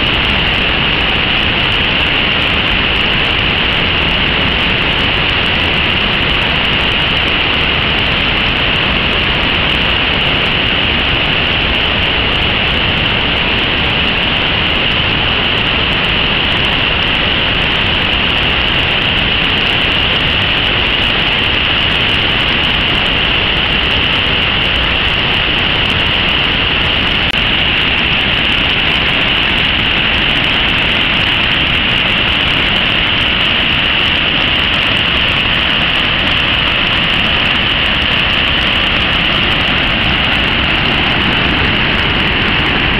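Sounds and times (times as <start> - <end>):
rush of fast-flowing water: 0.0 - 42.9.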